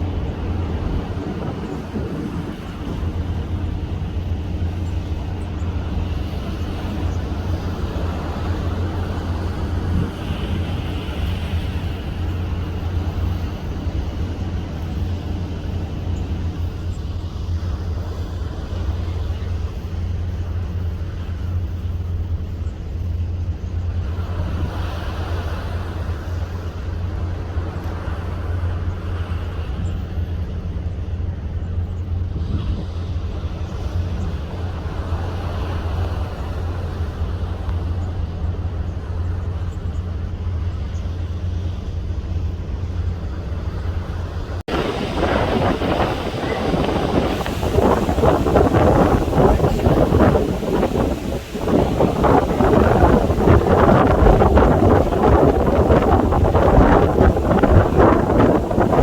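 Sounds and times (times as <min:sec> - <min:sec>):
rushing wind and water: 0:00.0 - 0:59.0
ship engine deep rumble: 0:00.0 - 0:59.0.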